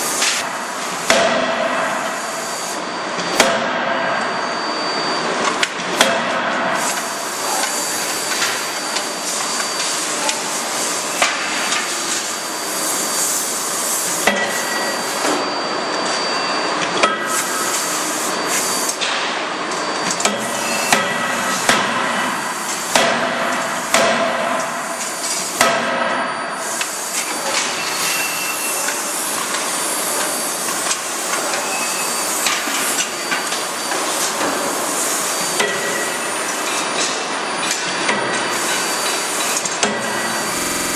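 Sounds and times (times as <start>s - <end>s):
shop noise hiss: 0.0s - 40.9s.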